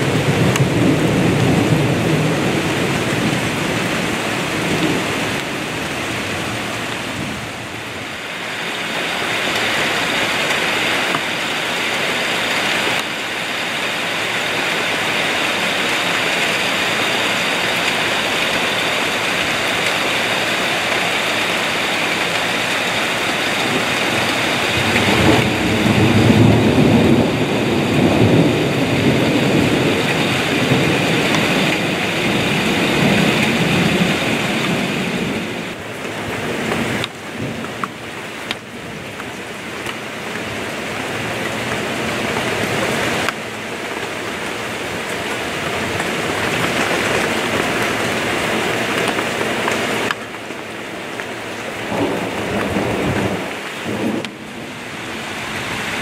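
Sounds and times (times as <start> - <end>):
rain splashing on the ground: 0.0 - 56.0.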